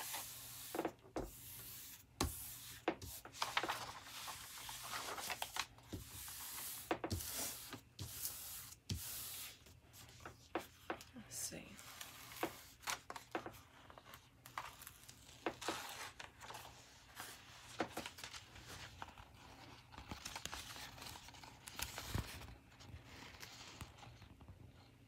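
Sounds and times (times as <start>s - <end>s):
crinkling of paper being handled: 0.0s - 25.0s.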